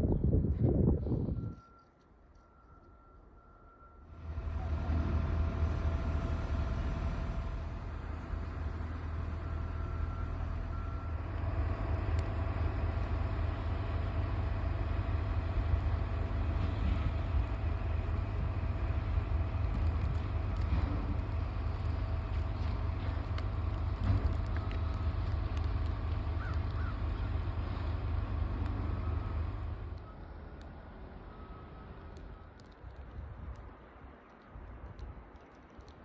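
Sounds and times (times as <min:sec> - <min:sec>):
vehicle engine rumble: 0:00.0 - 0:36.0
road noise: 0:02.0 - 0:36.0.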